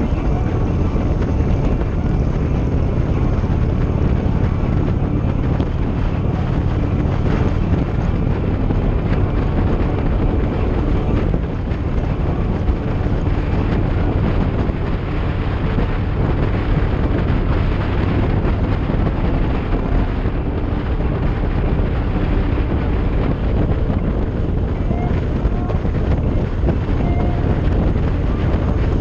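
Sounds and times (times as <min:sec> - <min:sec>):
motorcycle engine drone: 0:00.0 - 0:29.0
tyres on road: 0:00.0 - 0:29.0
wind rushing over microphone: 0:00.0 - 0:29.0.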